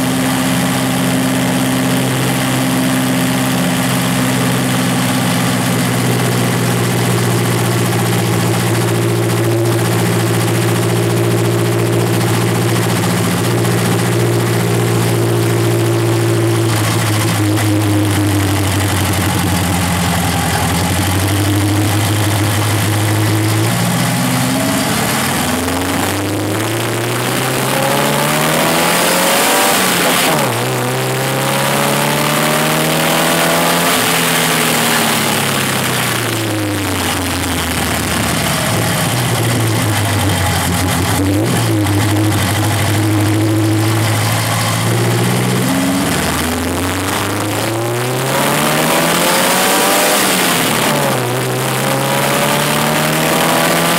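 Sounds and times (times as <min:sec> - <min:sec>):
car engine and exhaust: 0:00.0 - 0:53.9.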